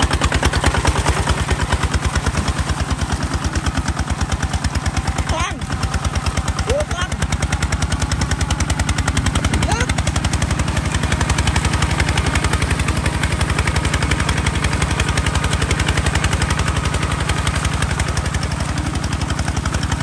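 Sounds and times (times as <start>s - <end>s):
diesel tractor engine chugging: 0.0s - 20.0s
wheels churning mud: 0.0s - 20.0s.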